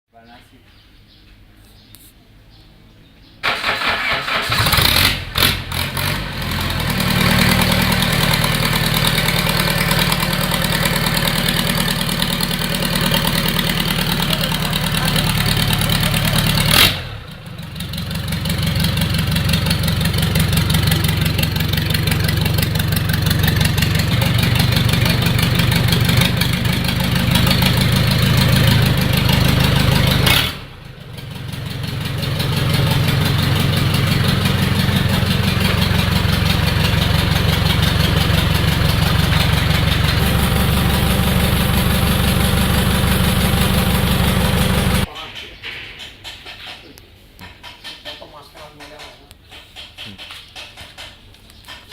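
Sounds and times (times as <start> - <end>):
diesel engine idling: 3.4 - 45.1.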